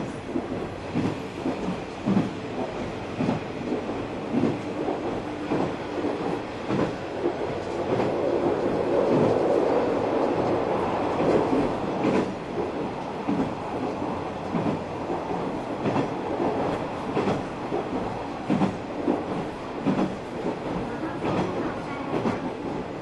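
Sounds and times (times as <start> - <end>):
diesel railcar rumble: 0.0 - 23.0.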